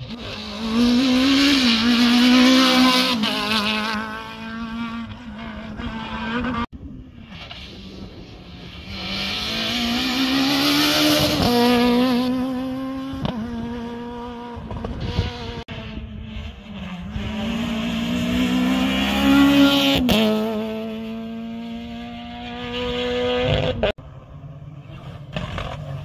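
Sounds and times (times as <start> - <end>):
rally car engines at full throttle: 0.0 - 26.0
rally car passing close: 0.0 - 26.0.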